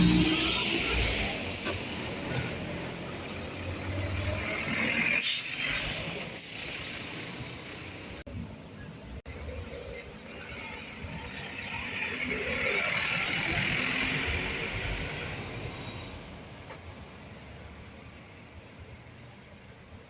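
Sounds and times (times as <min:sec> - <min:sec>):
bus driving past: 0:00.0 - 0:20.0.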